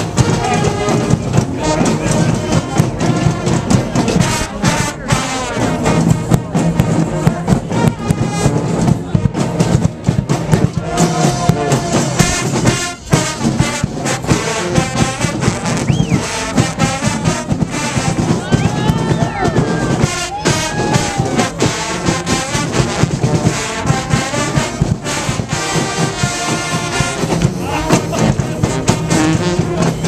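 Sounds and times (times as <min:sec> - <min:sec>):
brass band playing: 0:00.0 - 0:30.0
drum hits: 0:05.9 - 0:30.0.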